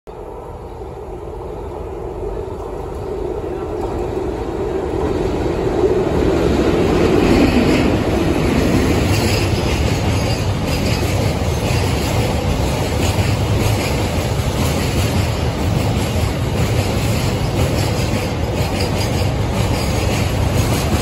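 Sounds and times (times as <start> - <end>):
electric locomotive passing: 0.1 - 21.0.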